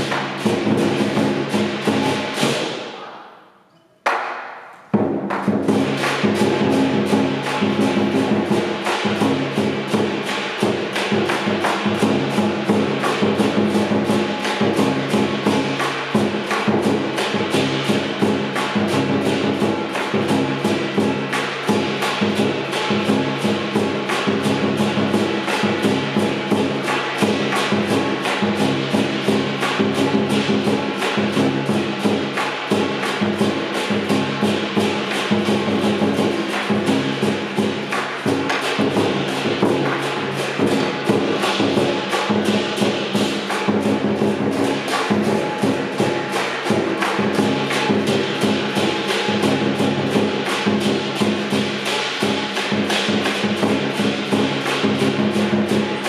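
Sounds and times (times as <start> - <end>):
hand cymbals clashing: 0.0 - 3.0, 3.7 - 56.0
large drum beating fast: 0.0 - 3.0, 4.9 - 56.0.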